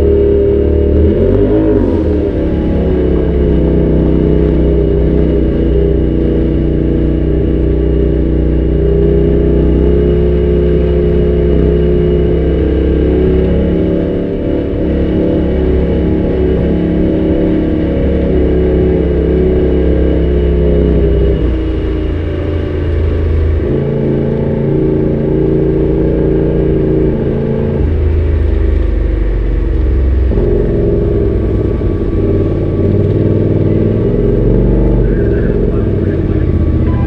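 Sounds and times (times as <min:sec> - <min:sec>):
utv engine running: 0:00.0 - 0:37.0.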